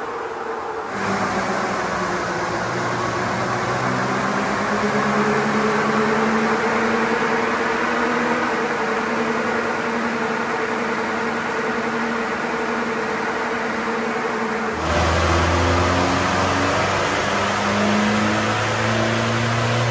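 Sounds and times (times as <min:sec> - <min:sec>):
car engine droning: 0:00.0 - 0:19.9.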